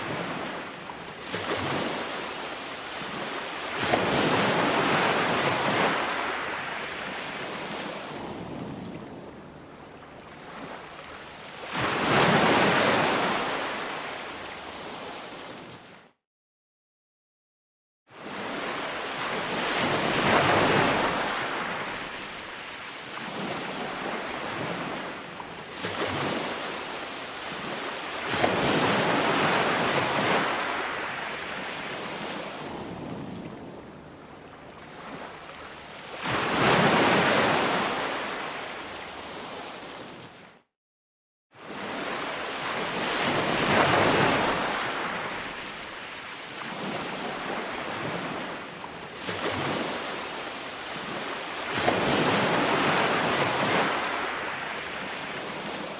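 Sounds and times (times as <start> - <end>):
ocean waves breaking on shore: 0.0 - 16.2, 18.1 - 40.7, 41.6 - 55.9.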